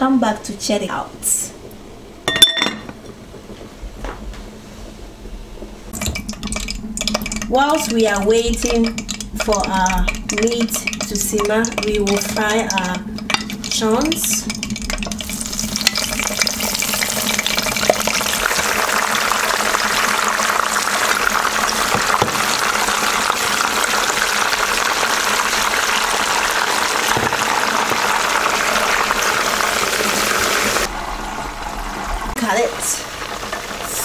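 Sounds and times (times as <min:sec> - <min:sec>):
food sizzling in hot oil: 0:05.9 - 0:34.0.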